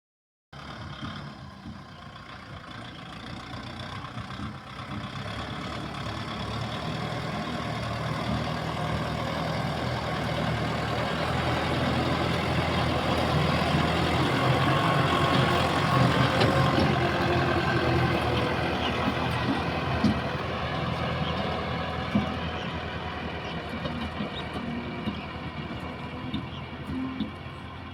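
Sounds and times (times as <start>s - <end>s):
tractor diesel engine running: 0.6s - 27.9s.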